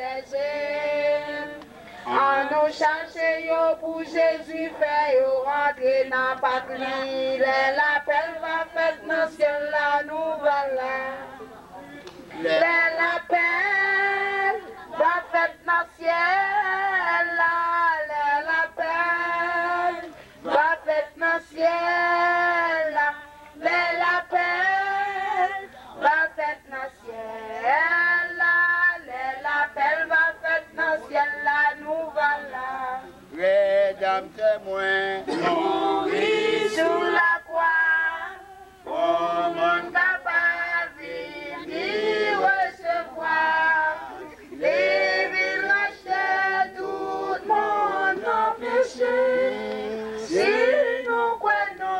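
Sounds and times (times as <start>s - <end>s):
group of voices singing: 0.0s - 51.9s.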